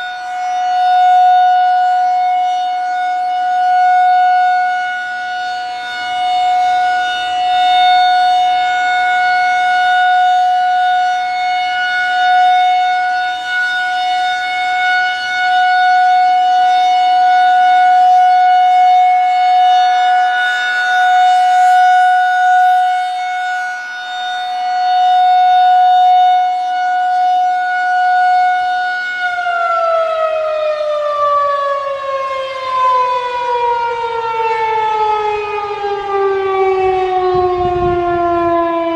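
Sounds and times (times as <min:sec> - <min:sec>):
chopper siren tone: 0:00.0 - 0:38.9.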